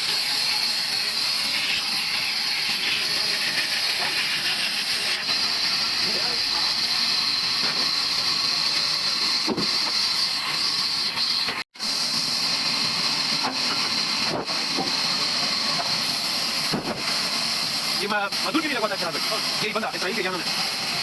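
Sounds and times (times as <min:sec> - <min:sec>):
sawmill machinery hissing: 0:00.0 - 0:21.0.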